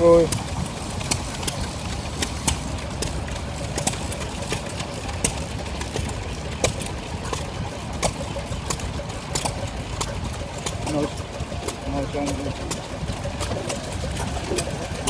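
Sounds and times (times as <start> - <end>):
engine low rumble: 0.0 - 15.0
sharp clicks and knocks: 0.0 - 15.0.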